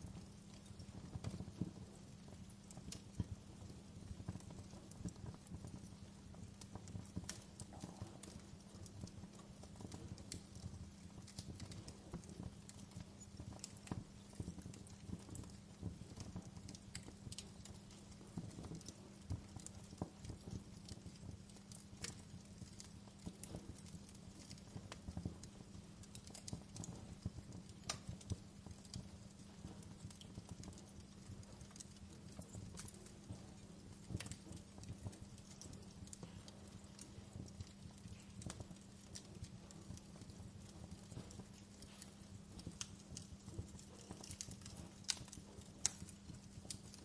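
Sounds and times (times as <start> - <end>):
steady low hum: 0.0 - 47.0
wood fire crackling: 0.0 - 47.0.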